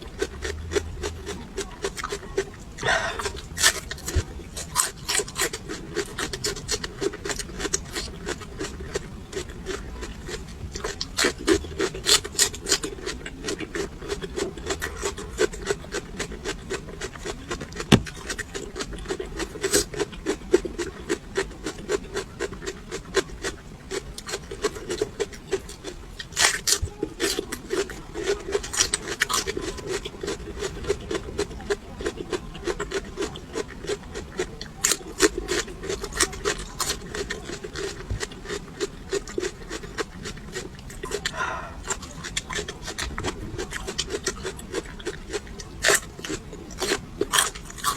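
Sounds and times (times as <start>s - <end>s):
crunching and chewing peppers: 0.0s - 47.9s.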